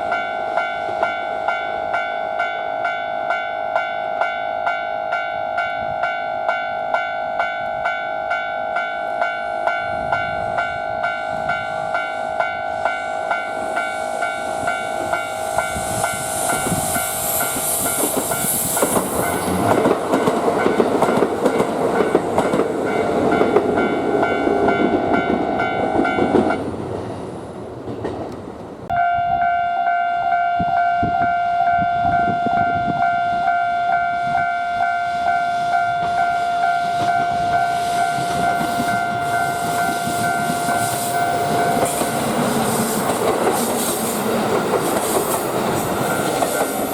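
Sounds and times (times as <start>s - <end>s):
train passing: 0.0s - 46.9s.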